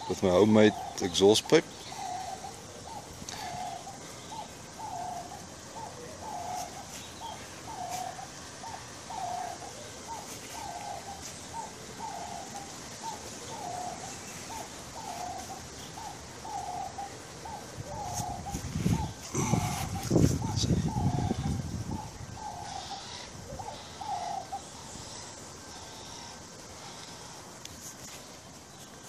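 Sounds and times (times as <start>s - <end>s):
dove cooing: 0.0s - 27.6s.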